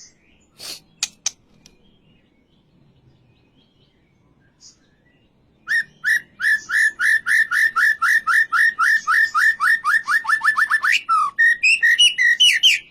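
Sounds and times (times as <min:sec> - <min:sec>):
bird singing whistled notes: 0:01.7 - 0:12.9.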